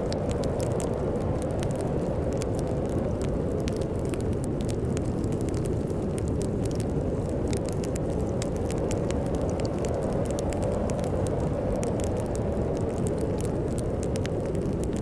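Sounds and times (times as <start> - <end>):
fire crackling and popping: 0.0 - 15.0
snowstorm wind rumble: 0.0 - 15.0.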